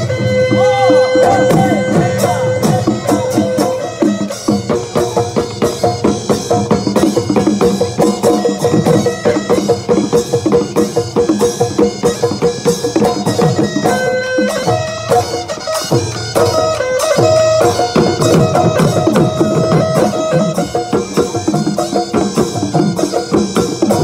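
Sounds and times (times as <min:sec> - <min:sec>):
held melody note: 0:00.0 - 0:24.0.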